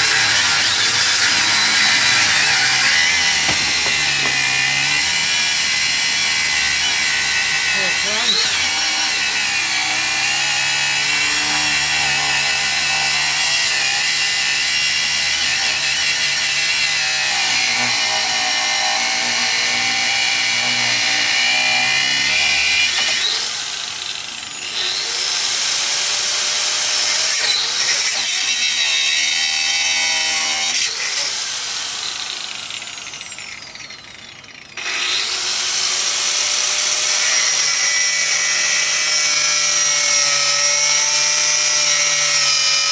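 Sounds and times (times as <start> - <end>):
angle grinder cutting metal: 0.0 - 42.9.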